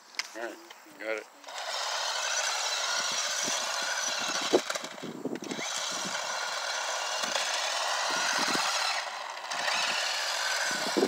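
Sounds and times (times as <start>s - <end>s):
rc car motor whining: 1.4s - 11.0s.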